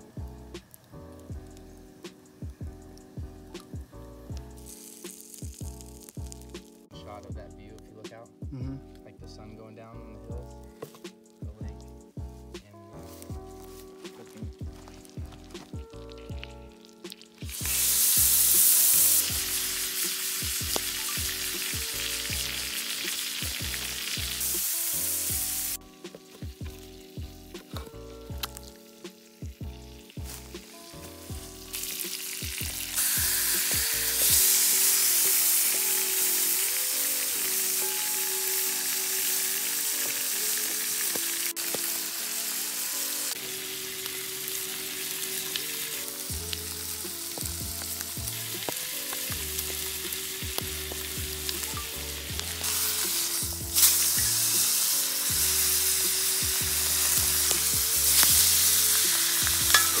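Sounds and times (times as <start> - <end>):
steaks sizzling in a skillet: 0.0 - 6.9, 13.0 - 60.0
quiet background music: 0.0 - 60.0.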